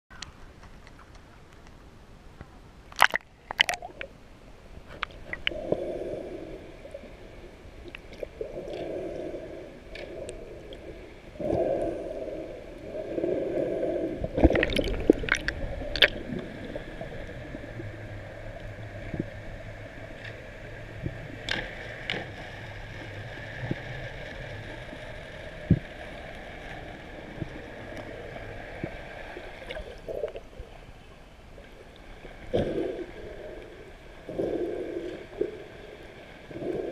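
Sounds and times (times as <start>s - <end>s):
boat engine drone underwater: 1.3s - 36.9s
water sloshing and gurgling: 2.9s - 36.9s.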